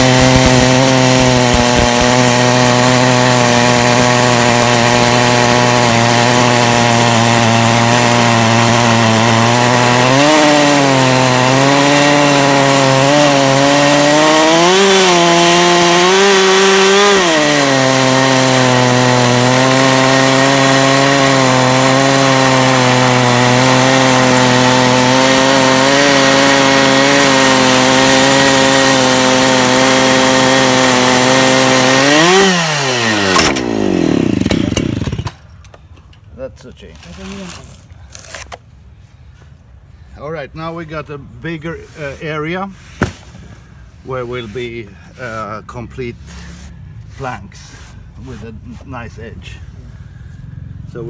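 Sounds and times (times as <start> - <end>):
chainsaw ripping along log: 0.0 - 35.4, 36.8 - 38.7, 41.7 - 45.5.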